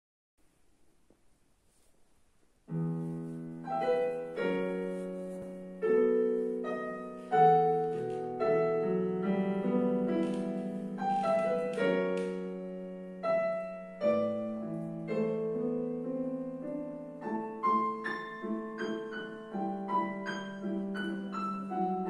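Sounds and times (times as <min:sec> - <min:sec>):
digital piano chords: 0:02.6 - 0:22.0.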